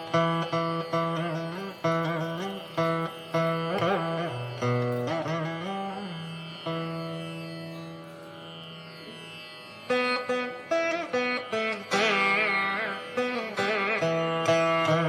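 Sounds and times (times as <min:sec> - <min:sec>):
plucked string instrument melody: 0:00.0 - 0:15.0.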